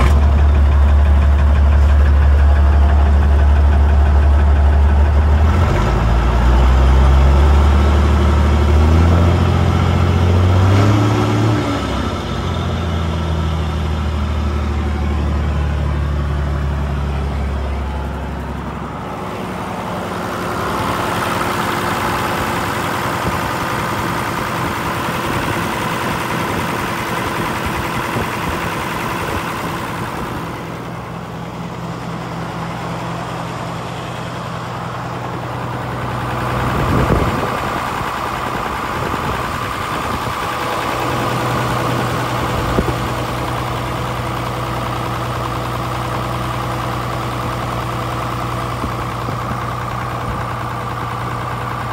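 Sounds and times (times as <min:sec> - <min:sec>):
diesel engine idling: 0:00.0 - 0:51.9
engine whine: 0:00.0 - 0:51.9.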